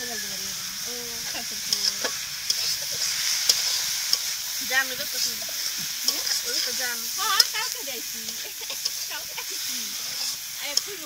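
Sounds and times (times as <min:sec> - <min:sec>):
greens sizzling in a wok: 0:00.0 - 0:11.0
metal spatula scraping a pan: 0:00.2 - 0:11.0.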